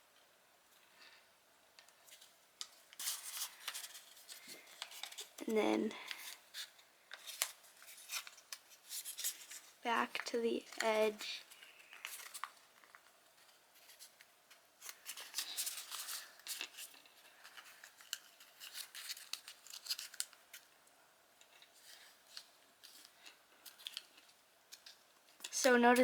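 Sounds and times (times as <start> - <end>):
paper rustling and crinkling: 1.8 - 20.7, 21.4 - 26.0.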